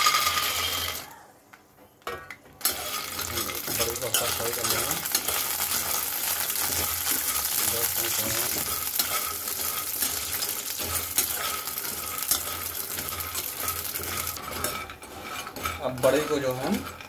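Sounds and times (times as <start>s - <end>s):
metal spoon scraping a pan: 0.0s - 1.1s, 2.6s - 17.0s
food sizzling in hot oil: 0.0s - 1.2s, 2.6s - 17.0s.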